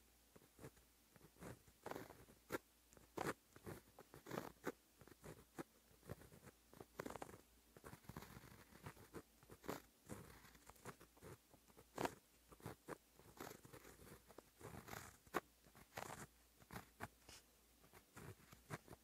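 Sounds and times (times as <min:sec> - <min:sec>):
pen scratching on paper: 0:00.3 - 0:19.0.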